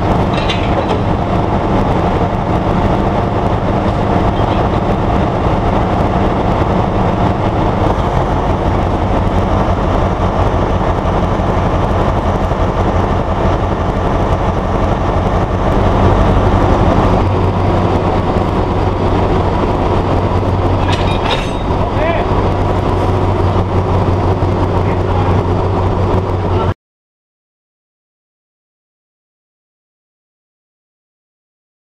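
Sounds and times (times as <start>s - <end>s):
diesel locomotive engine idling: 0.0s - 26.8s.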